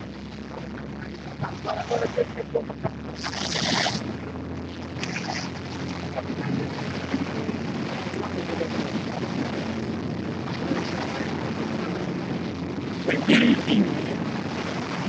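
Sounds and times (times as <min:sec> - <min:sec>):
boat motor running: 0:00.0 - 0:15.0
water splashing along hull: 0:00.0 - 0:15.0
wind buffeting microphone: 0:00.0 - 0:15.0.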